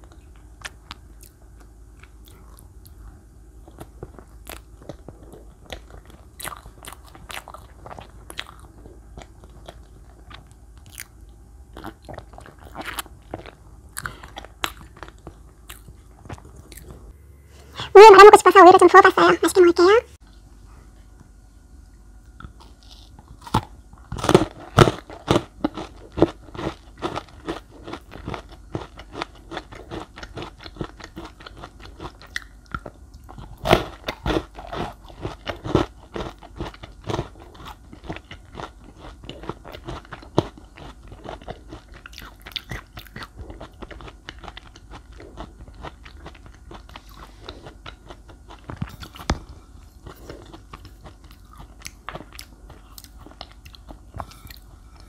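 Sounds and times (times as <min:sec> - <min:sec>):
chewing cake: 0:00.0 - 0:17.1, 0:20.2 - 0:55.0
crunchy bites: 0:03.6 - 0:17.1, 0:22.3 - 0:55.0.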